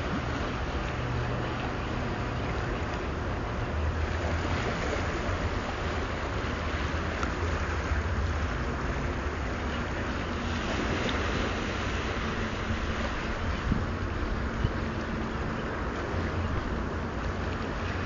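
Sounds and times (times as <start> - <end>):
low steady rumble: 0.0 - 18.0
sea water washing: 0.0 - 18.0
wind on microphone: 0.0 - 18.0.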